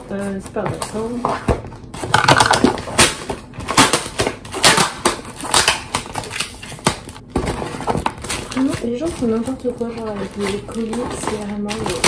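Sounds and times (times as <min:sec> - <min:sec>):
paper and cardboard crinkling: 0:00.0 - 0:12.0.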